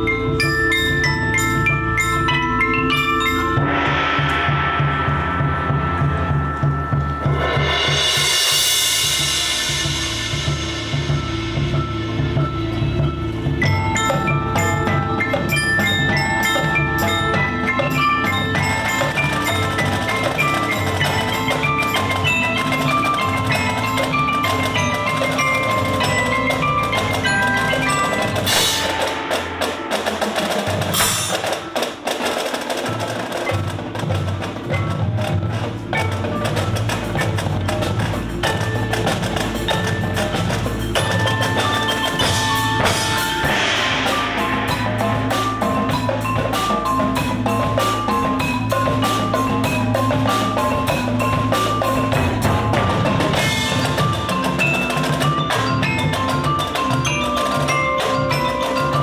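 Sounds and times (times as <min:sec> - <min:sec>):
mallet percussion bell-like notes: 0:00.0 - 0:59.0
marching band music: 0:00.0 - 0:59.0.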